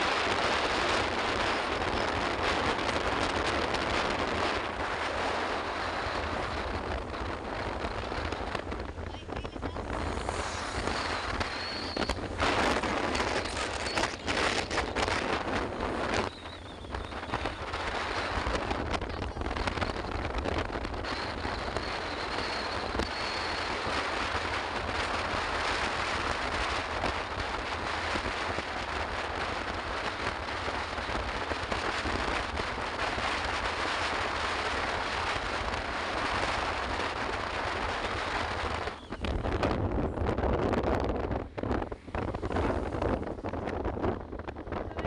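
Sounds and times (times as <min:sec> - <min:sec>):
road and riding noise: 0:00.0 - 0:45.0
wind buffeting microphone: 0:00.0 - 0:45.0.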